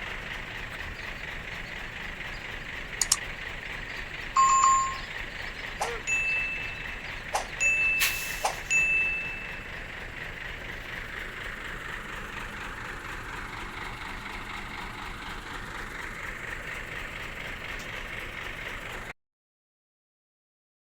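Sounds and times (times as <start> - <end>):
heavy vehicle engine humming: 0.0 - 19.2.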